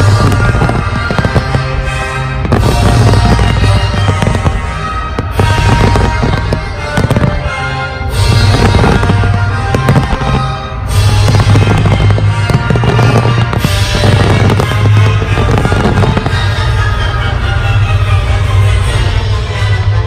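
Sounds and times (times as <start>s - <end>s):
fireworks bursting and crackling: 0.0s - 20.0s
music with deep bass: 0.0s - 20.0s.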